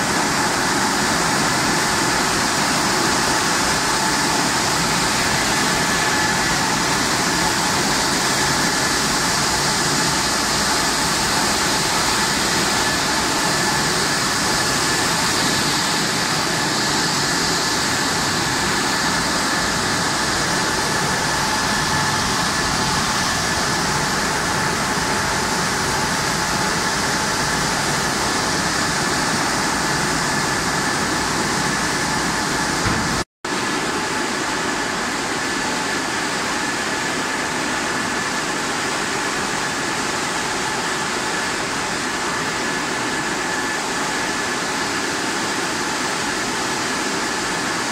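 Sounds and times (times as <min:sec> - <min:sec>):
constant motor whine: 0:00.0 - 0:47.9
conveyor rushing noise: 0:00.0 - 0:47.9.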